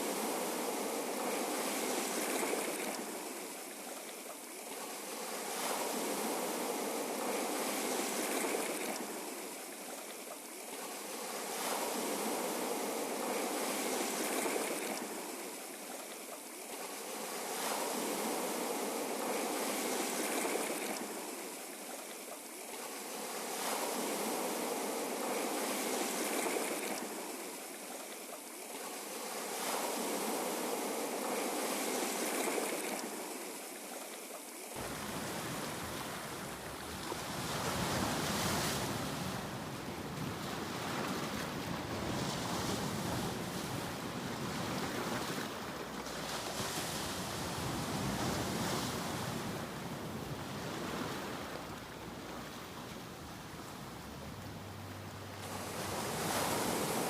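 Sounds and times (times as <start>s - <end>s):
waves washing in: 0.0s - 57.0s.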